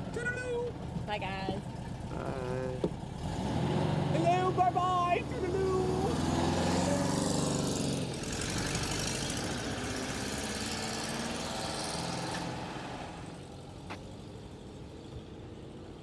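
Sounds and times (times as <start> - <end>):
van engine pulling away: 0.0 - 16.0.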